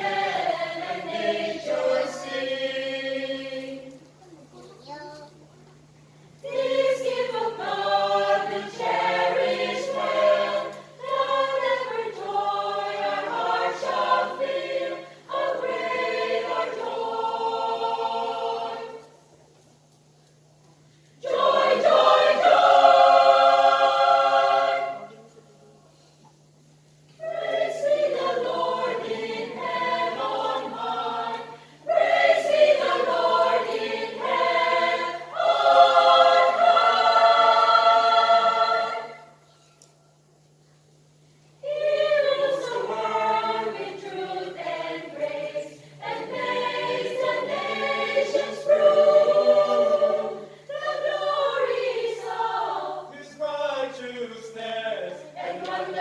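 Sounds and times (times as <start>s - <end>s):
choir singing a carol: 0.0s - 4.2s, 6.3s - 19.4s, 21.2s - 25.6s, 27.2s - 39.9s, 41.6s - 56.0s.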